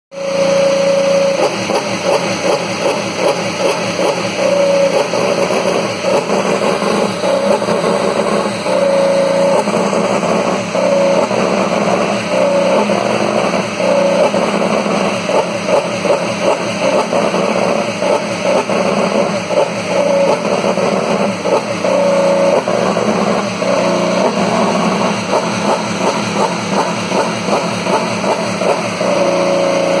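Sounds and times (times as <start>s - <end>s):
racing car engine revving: 0.1s - 30.0s.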